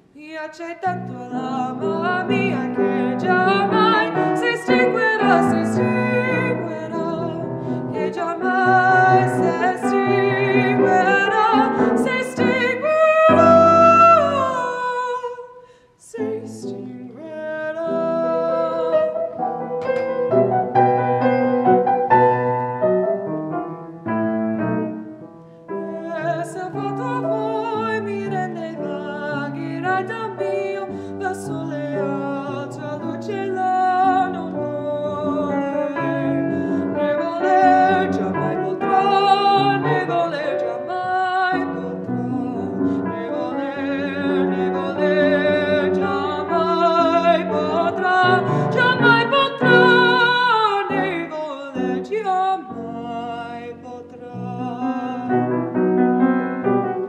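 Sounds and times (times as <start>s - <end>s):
grand piano: 0.0s - 15.5s, 16.1s - 57.0s
woman singing classically with vibrato: 0.0s - 19.7s, 25.8s - 55.8s.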